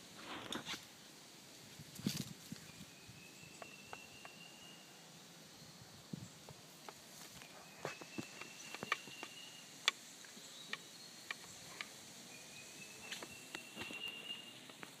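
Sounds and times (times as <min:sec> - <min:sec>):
faint insect song: 0:00.0 - 0:15.0.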